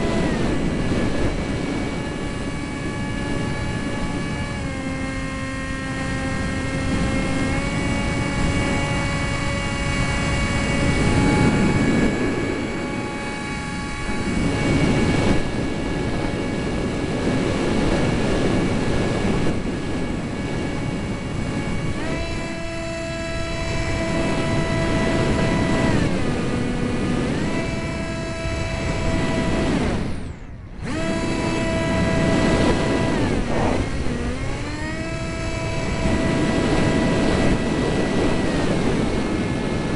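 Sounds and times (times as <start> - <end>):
jet engines whining: 0.0 - 39.9
wind buffeting microphone: 0.0 - 39.9.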